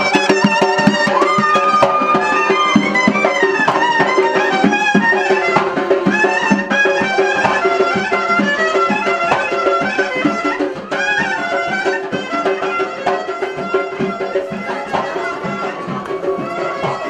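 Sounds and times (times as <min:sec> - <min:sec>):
wind instrument melody: 0:00.0 - 0:17.0.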